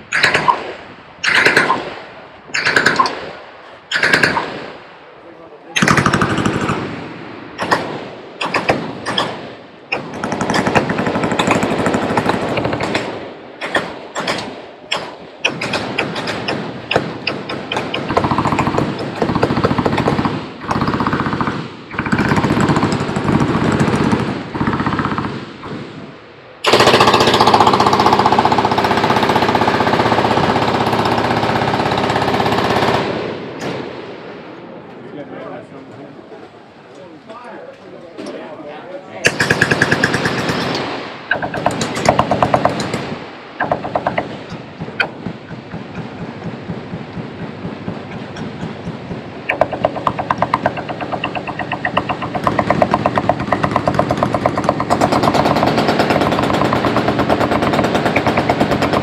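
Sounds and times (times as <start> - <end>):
machine guns firing bursts: 0.1 - 2.0, 2.6 - 3.3, 3.9 - 4.7, 5.8 - 6.9, 7.6 - 25.8, 26.6 - 33.8, 39.3 - 59.0.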